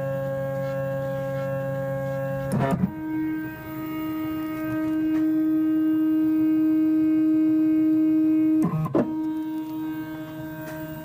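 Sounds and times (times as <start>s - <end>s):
milling machine motor whine: 0.0s - 11.0s.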